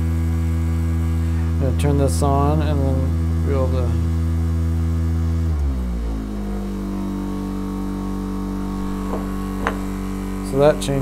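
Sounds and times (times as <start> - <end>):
motor driven generator humming: 0.0 - 11.0.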